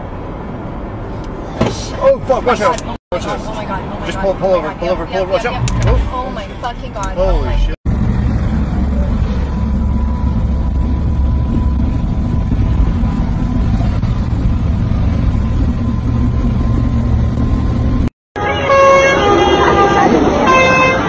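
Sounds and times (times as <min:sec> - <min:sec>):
truck engine and tyres rumbling: 0:00.0 - 0:21.0.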